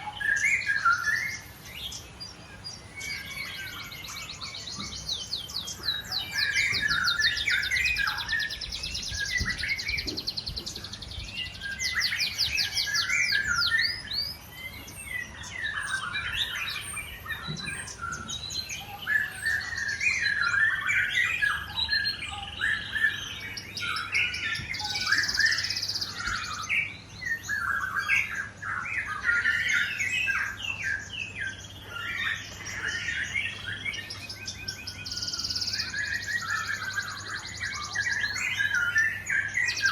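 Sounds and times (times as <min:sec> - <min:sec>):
birds singing and whistling: 0:00.0 - 0:39.9.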